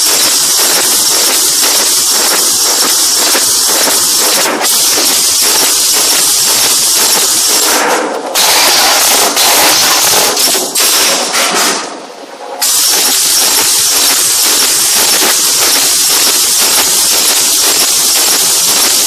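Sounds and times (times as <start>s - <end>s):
machine hissing: 0.0s - 19.0s.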